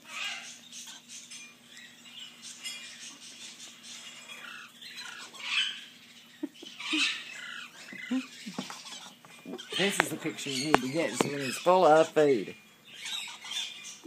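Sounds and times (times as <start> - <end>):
parrot chick squeaky begging calls: 0.0 - 14.0.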